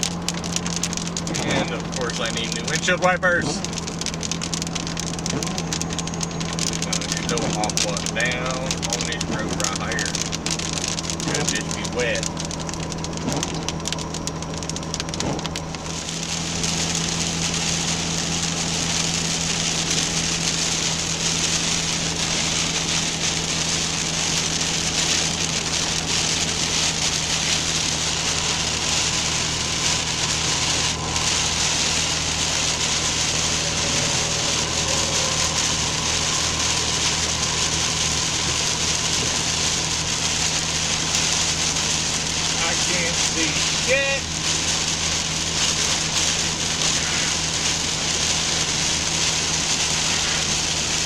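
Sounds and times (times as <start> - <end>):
engine and road drone: 0.0 - 51.0
heavy rain on truck windshield: 0.0 - 51.0.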